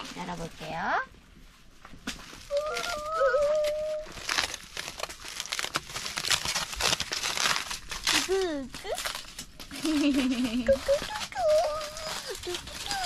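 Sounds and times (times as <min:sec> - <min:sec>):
aluminium foil crinkling: 0:00.0 - 0:01.0, 0:02.1 - 0:13.0.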